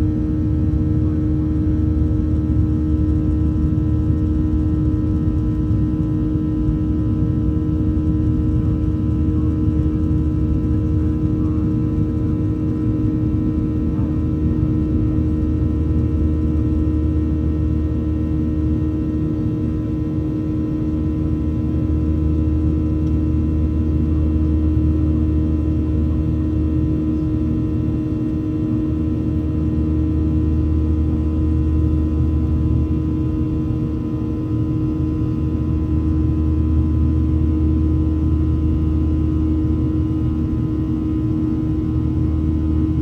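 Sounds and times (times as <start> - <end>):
deep airflow rumble: 0.0 - 43.0
jet engines humming: 0.0 - 43.0.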